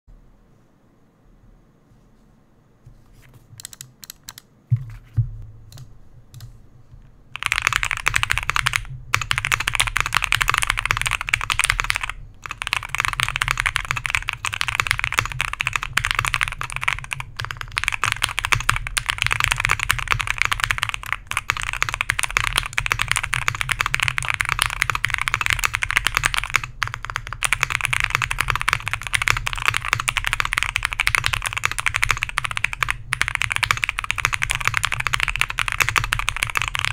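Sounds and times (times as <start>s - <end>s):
typing on mechanical keyboard: 3.6s - 4.5s, 7.4s - 36.9s.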